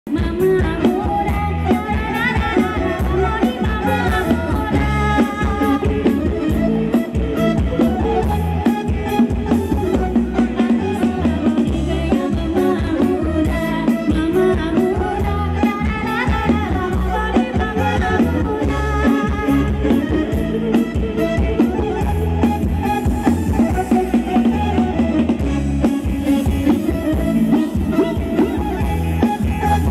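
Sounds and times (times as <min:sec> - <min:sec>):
dance band playing over a pa: 0:00.1 - 0:29.9.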